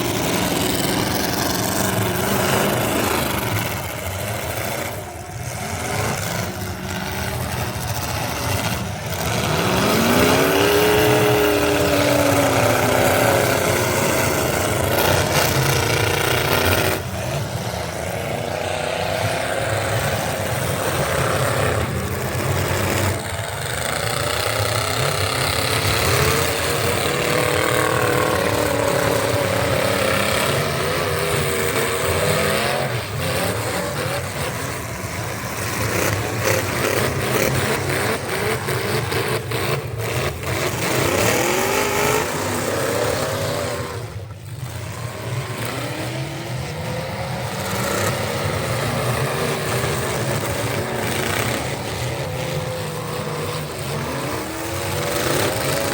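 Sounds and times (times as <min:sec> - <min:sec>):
truck engine at high revs: 0:00.0 - 0:55.9.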